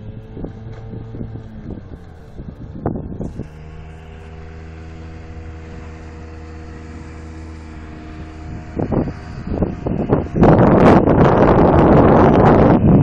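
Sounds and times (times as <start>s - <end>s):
motorboat engine running: 0.0s - 13.0s
wind buffeting microphone: 0.0s - 13.0s.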